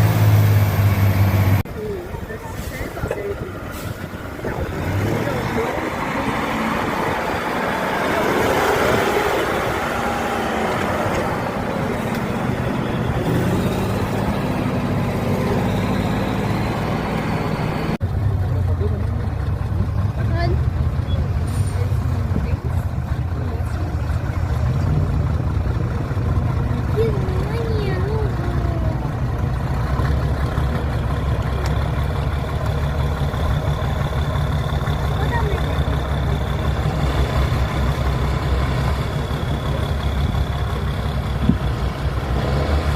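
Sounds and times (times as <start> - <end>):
truck engine working hard: 0.0 - 42.9.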